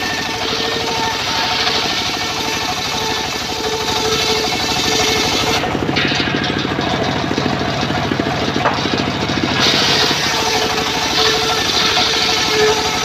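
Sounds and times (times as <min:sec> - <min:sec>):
engine pulsing: 0:00.0 - 0:13.0
saw blade cutting wood: 0:00.0 - 0:13.0
saw blade spinning freely: 0:00.0 - 0:13.0.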